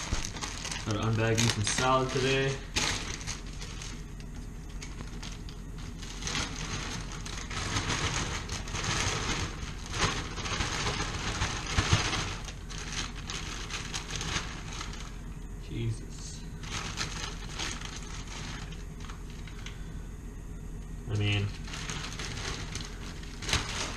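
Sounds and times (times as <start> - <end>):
plastic bag rustling and crinkling: 0.0 - 15.4, 16.6 - 19.9, 21.1 - 23.9.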